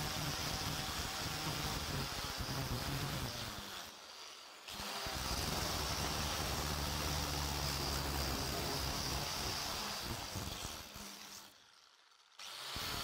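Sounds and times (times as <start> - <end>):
angle grinder sanding wood: 0.0 - 13.0.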